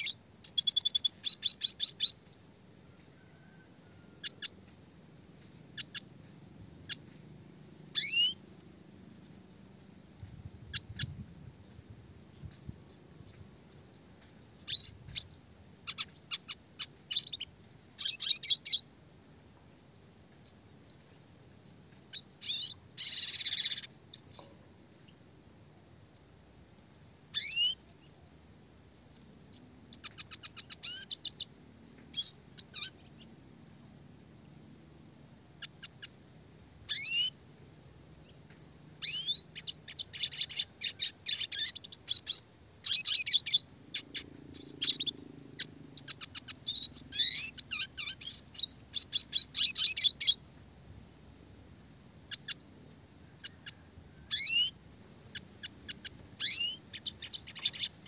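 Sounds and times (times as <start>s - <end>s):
bird chirping trills: 0.0s - 25.3s, 27.3s - 28.2s, 29.0s - 33.4s, 34.3s - 36.2s, 36.8s - 37.4s, 38.2s - 50.5s, 52.2s - 52.7s, 53.3s - 58.0s.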